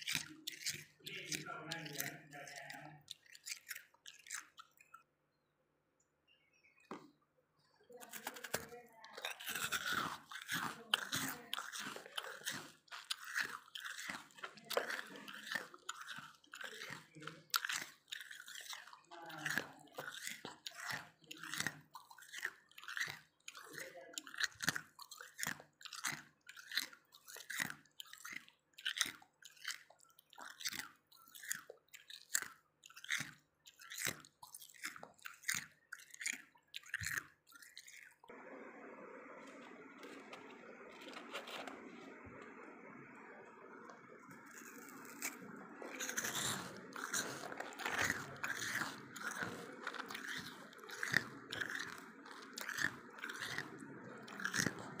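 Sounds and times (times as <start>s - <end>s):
chewing crunchy frost: 0.0s - 5.1s, 7.8s - 38.4s, 39.4s - 55.0s.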